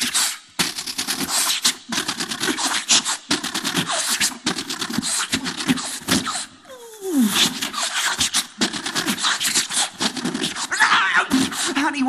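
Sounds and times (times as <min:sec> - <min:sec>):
beatboxed gunfire and blasts: 0:00.0 - 0:06.6, 0:07.2 - 0:12.0.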